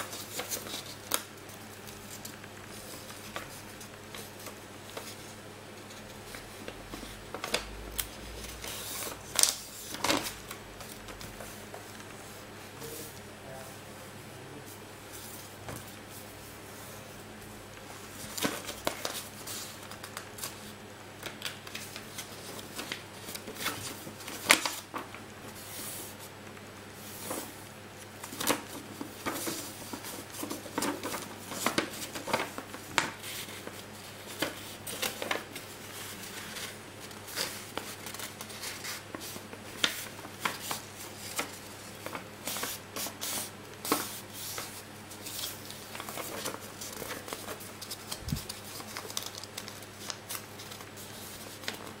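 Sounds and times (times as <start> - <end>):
paper rustling and crinkling: 0.0 - 13.2, 17.8 - 26.4, 27.0 - 52.0.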